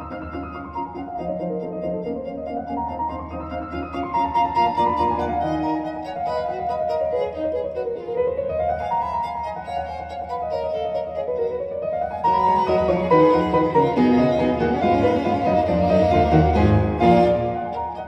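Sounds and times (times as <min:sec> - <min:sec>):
violin and piano music: 0:00.0 - 0:18.0.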